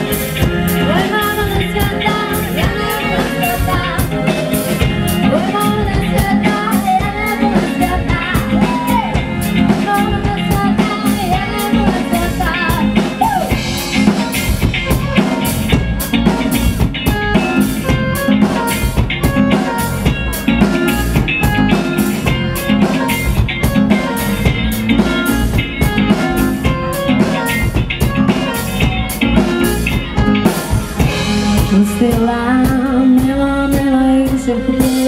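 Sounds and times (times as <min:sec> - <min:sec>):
bass guitar: 0:00.0 - 0:35.0
drum kit beat: 0:00.0 - 0:35.0
electric guitar: 0:00.0 - 0:35.0.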